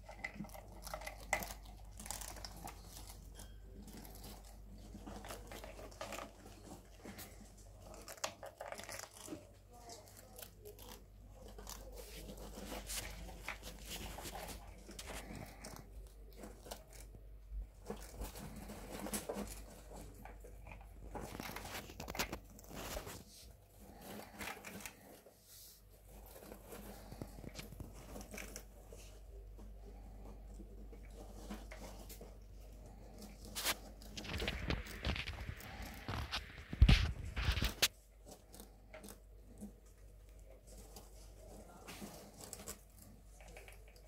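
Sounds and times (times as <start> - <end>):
rats gnawing and chewing: 0.0 - 44.0
rustling in wood shavings: 0.7 - 17.1, 21.0 - 43.6.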